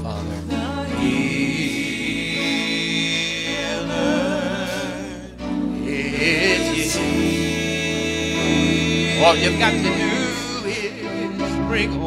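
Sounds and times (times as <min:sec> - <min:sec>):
electric keyboard chords: 0:00.0 - 0:12.0
gospel choir singing: 0:00.0 - 0:12.0.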